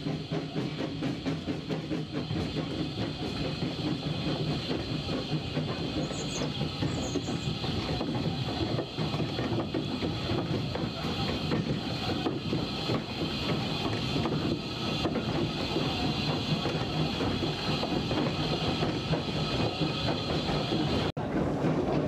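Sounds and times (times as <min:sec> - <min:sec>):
steam hissing: 0:00.0 - 0:21.1
running gear and rails clatter: 0:00.0 - 0:22.0
steam locomotive exhaust beats: 0:00.0 - 0:22.0.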